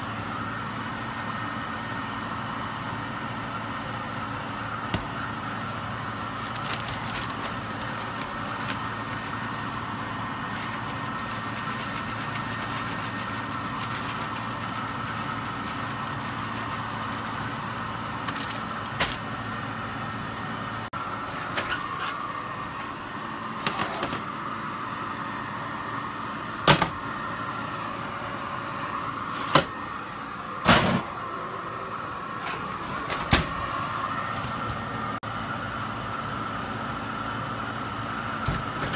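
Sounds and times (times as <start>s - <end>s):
appliance hum: 0.0s - 38.9s.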